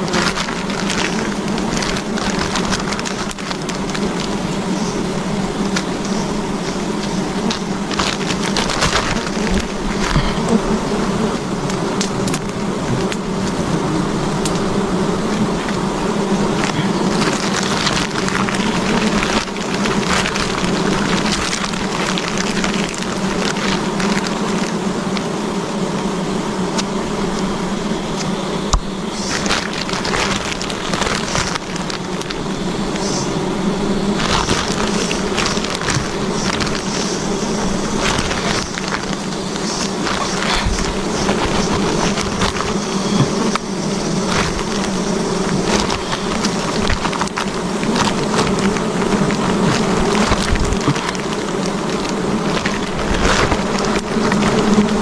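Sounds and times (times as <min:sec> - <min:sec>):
sharp clicks and crackles: 0:00.0 - 0:10.6, 0:11.6 - 0:13.6, 0:14.4 - 0:14.7, 0:16.5 - 0:25.3, 0:28.7 - 0:33.2, 0:34.2 - 0:55.0
bees buzzing: 0:00.0 - 0:55.0.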